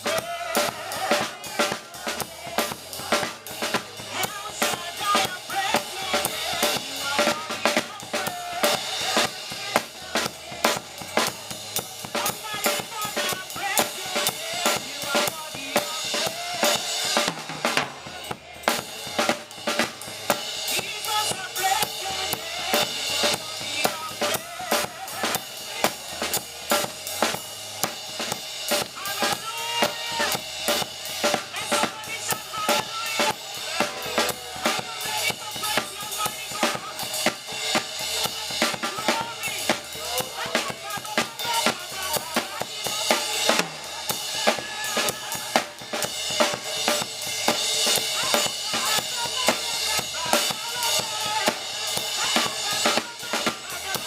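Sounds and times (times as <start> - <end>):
church praise band music: 0.0 - 54.0
drum kit steady beat: 0.0 - 54.0.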